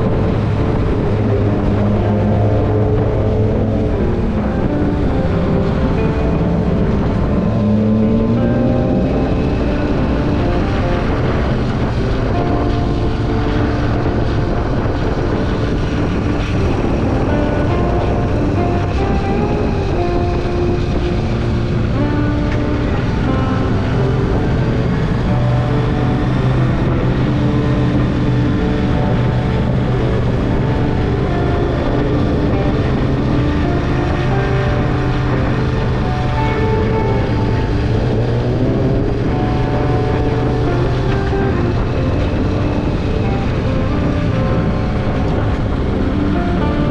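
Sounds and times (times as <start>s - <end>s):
motorcycle engine running: 0.0s - 46.9s
wind rushing: 0.0s - 46.9s.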